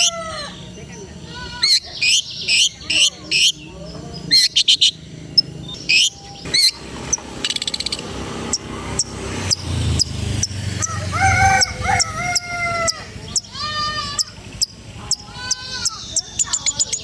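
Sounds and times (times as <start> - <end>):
bird singing sharp chips: 1.7 - 17.0.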